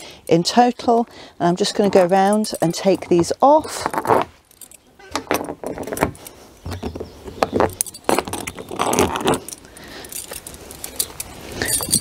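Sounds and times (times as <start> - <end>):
metal pins clicking and jingling: 0.0 - 6.4, 7.4 - 12.0
pins rubbing: 1.8 - 12.0.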